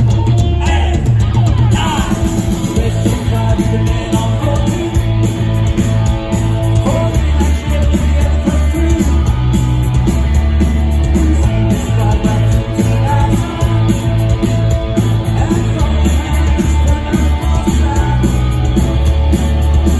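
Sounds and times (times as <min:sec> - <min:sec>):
drums: 0:00.0 - 0:19.9
electric guitar: 0:00.0 - 0:19.9
heavy bass: 0:00.0 - 0:19.9
person singing: 0:01.7 - 0:10.2, 0:11.0 - 0:19.9.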